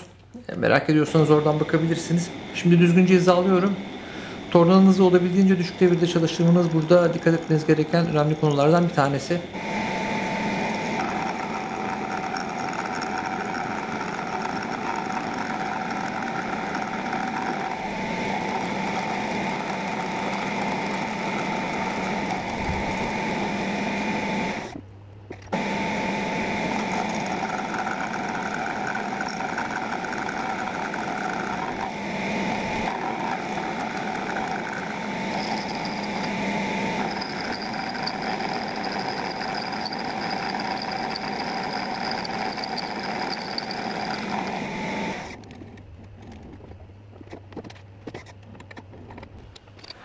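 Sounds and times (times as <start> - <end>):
metal lathe running: 0.0 - 24.8, 25.5 - 45.4.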